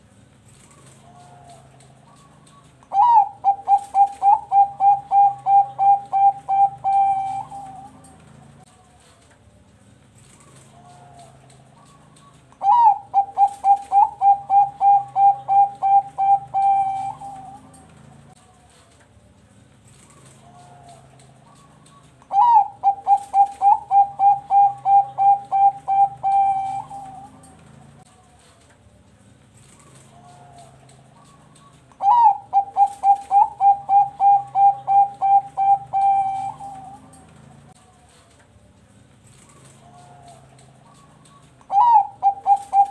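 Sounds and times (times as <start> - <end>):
dove cooing: 0.5 - 9.1, 10.2 - 18.4, 19.9 - 28.5, 29.6 - 38.2, 39.3 - 42.9.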